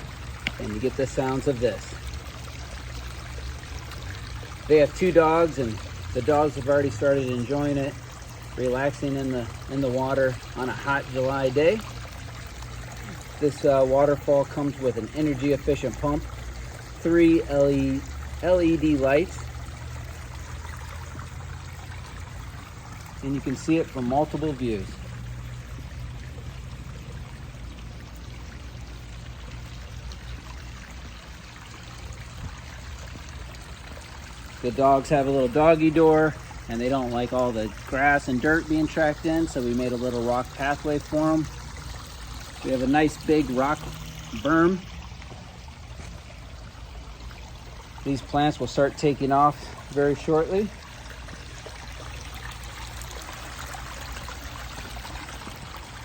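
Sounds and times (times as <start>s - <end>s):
water splashing over rocks: 0.0s - 56.0s.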